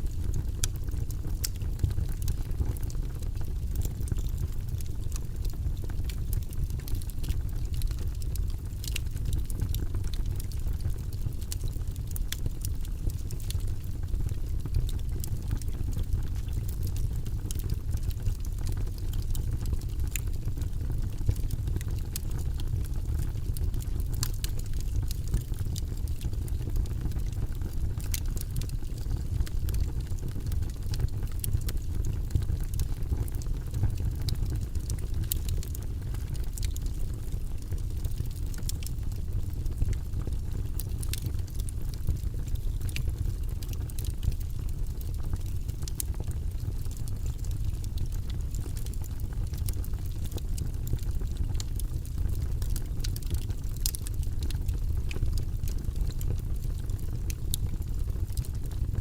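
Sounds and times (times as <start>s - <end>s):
fire flames rumbling: 0.0s - 59.0s
logs crackling and popping: 0.1s - 59.0s.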